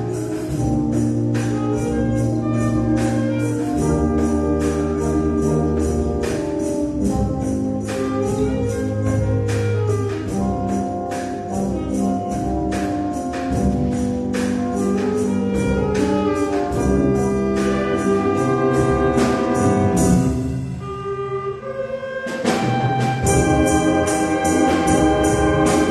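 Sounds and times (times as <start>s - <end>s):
percussion strikes: 0.0s - 21.2s, 22.4s - 25.9s
clarinets and brass chords: 0.0s - 25.9s.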